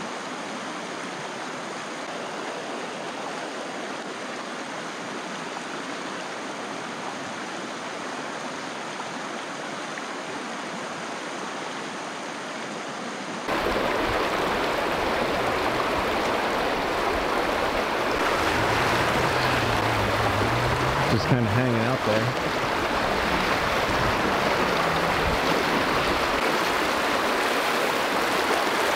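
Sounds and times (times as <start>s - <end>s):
river rushing over rocks: 0.0s - 28.9s.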